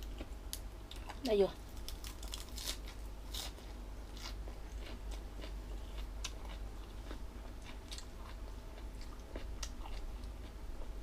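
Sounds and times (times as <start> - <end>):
crunchy chewing: 0.9 - 11.0.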